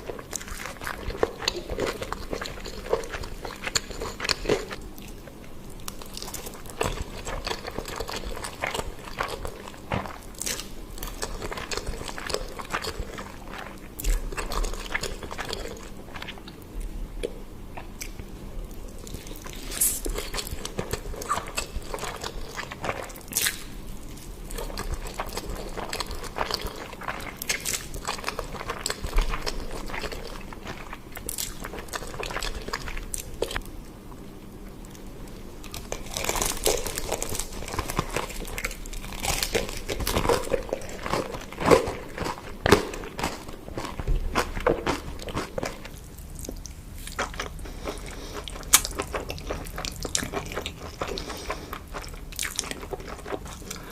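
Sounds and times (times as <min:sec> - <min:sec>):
chewing crunchy food: 0:00.0 - 0:53.9.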